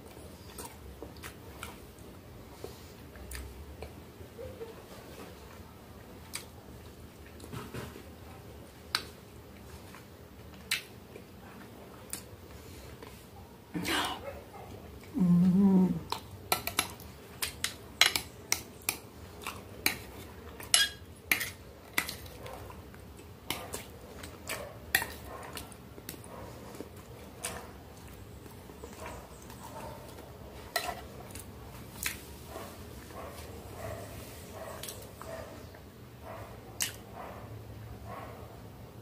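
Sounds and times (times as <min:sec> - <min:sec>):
soft chewing: 0:00.0 - 0:37.5.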